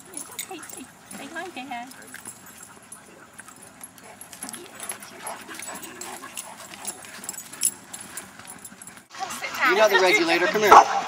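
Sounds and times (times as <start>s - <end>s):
dogs making faint vocal sounds: 0.0s - 9.1s.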